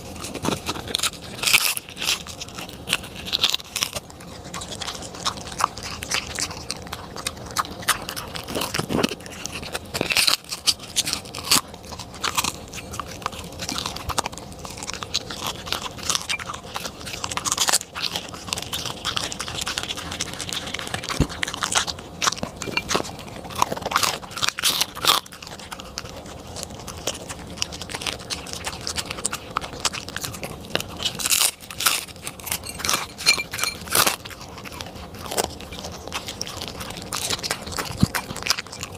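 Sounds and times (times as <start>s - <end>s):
dog crunching a treat: 0.0s - 38.9s.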